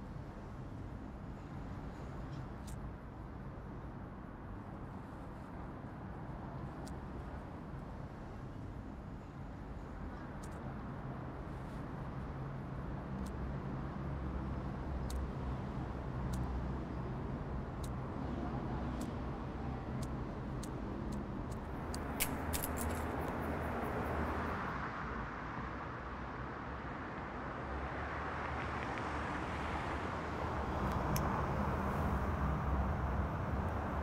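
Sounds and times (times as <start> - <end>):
distant traffic hum: 0.0 - 34.0.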